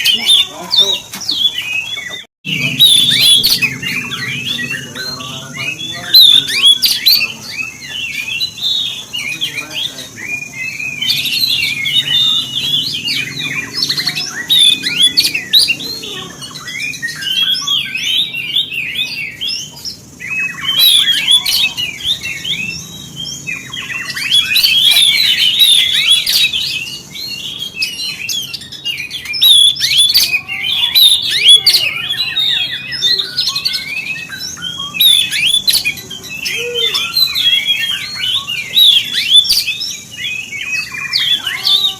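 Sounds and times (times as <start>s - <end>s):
bird singing chirps and whistles: 0.0s - 41.9s.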